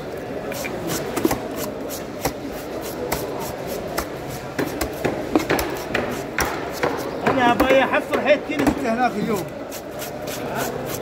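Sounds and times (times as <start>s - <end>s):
background murmur: 0.0s - 11.0s.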